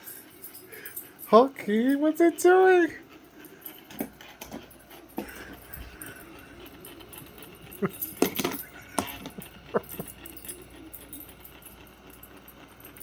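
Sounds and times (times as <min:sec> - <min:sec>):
metallic jangle: 0:00.0 - 0:13.0.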